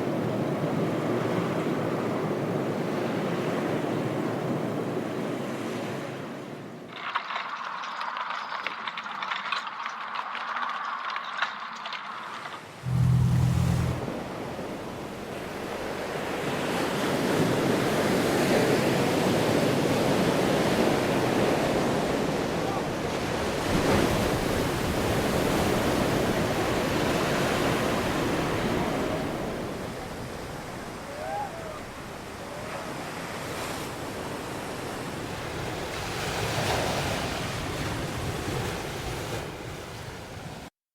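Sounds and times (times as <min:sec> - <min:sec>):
waves breaking on shore: 0:00.0 - 0:07.0, 0:12.8 - 0:40.7.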